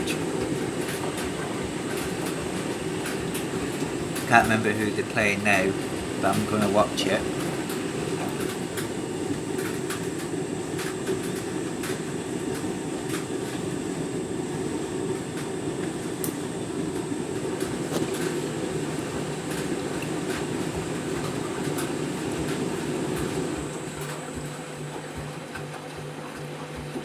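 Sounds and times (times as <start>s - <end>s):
washing machine drum and motor hum: 0.0s - 27.0s.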